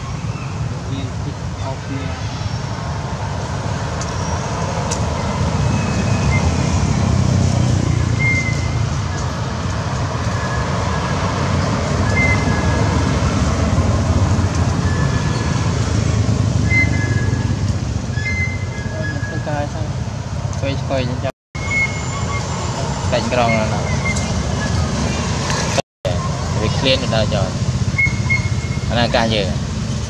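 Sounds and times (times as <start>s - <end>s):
low rumble of road traffic: 0.0s - 30.0s
vehicles passing: 0.0s - 30.0s.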